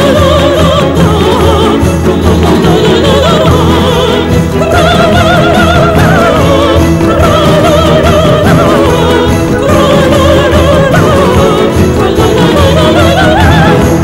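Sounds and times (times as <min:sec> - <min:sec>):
high operatic voice singing: 0:00.0 - 0:14.0
orchestral music: 0:00.0 - 0:14.0.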